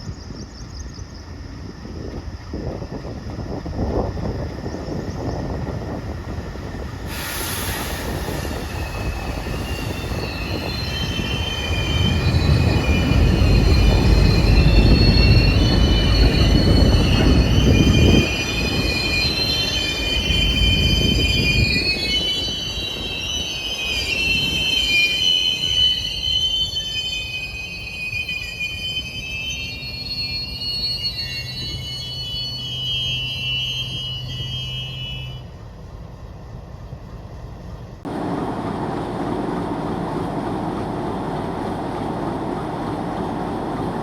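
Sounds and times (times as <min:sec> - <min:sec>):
train brakes squealing: 0:00.0 - 0:36.6
heavy rumble of rolling train: 0:00.0 - 0:44.0.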